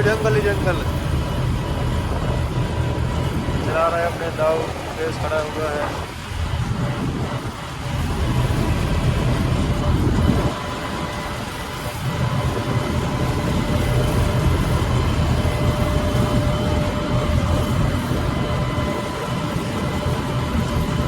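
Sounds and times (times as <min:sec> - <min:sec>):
faint engine whine: 0:00.0 - 0:21.0.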